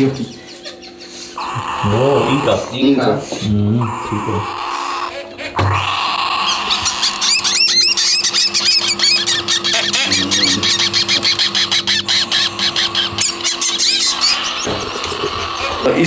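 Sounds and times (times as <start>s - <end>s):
parrot chicks squealing: 0.0s - 16.0s
steady low hum: 0.0s - 16.0s.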